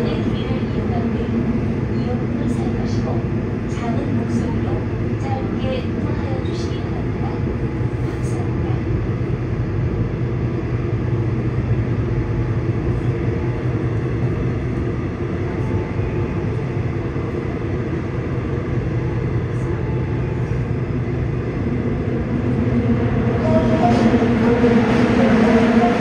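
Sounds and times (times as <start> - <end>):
subway train wheels rumbling: 0.0 - 26.0.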